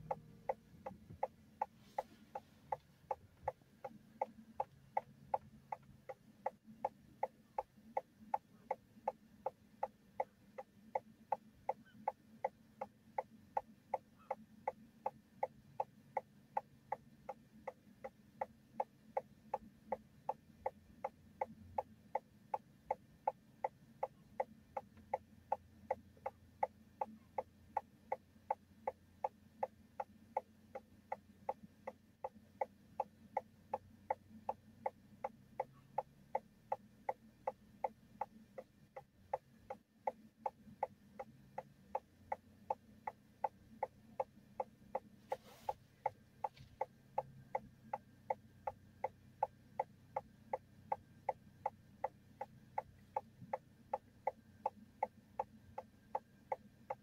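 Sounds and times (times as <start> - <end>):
faint idling car hum: 0.0 - 57.0
turn signal ticking: 0.0 - 57.0.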